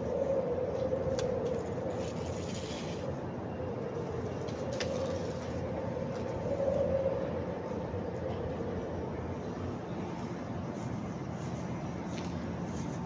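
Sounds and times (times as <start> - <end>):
wind moaning between buildings: 0.0 - 13.0.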